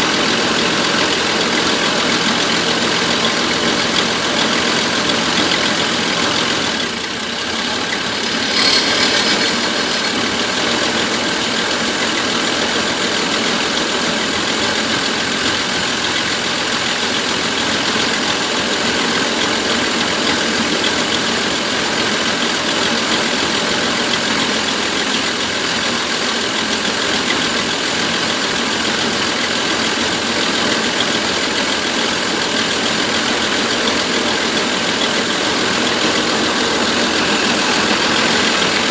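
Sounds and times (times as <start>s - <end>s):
van engine idling with misfire: 0.0s - 38.9s.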